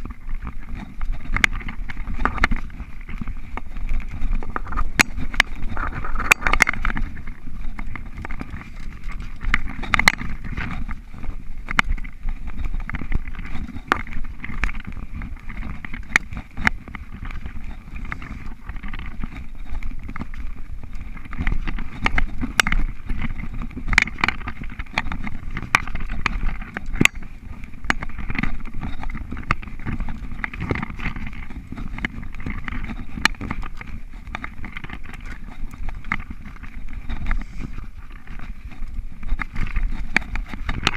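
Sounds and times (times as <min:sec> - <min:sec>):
bike clicks and rattles: 0:00.0 - 0:40.9
bike tyres rumbling on dirt: 0:00.0 - 0:40.9.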